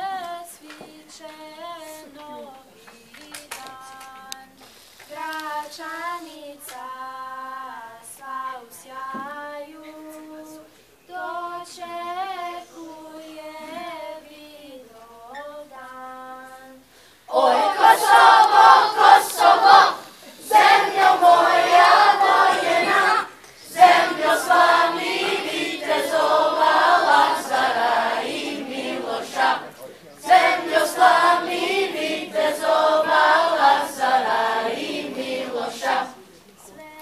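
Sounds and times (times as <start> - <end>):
children's choir singing a cappella: 0.0 - 37.0.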